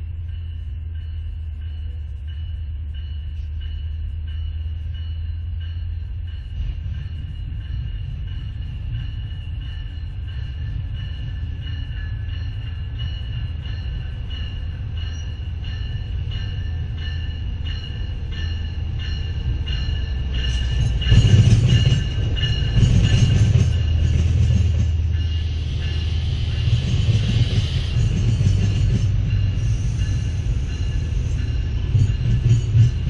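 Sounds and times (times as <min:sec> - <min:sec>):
train bell ringing: 0:00.0 - 0:33.0
train rumbling and rolling: 0:00.0 - 0:33.0.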